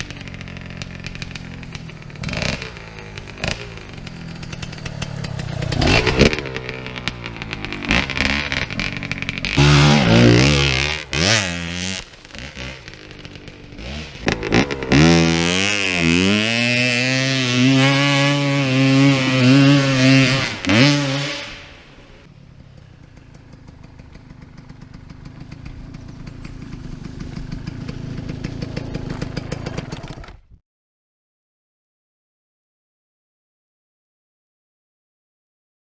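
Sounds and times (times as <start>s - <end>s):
motorcycle engine revving: 0.0s - 30.6s.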